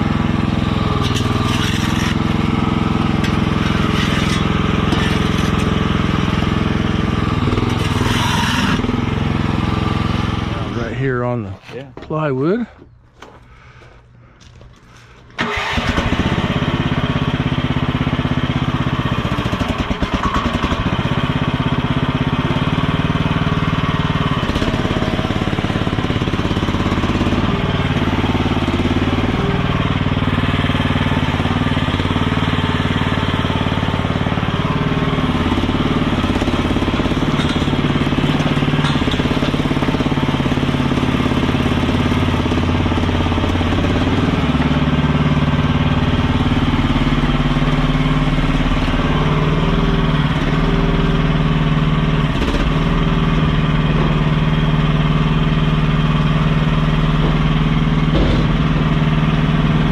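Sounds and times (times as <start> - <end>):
small loader engine running: 0.0 - 59.9.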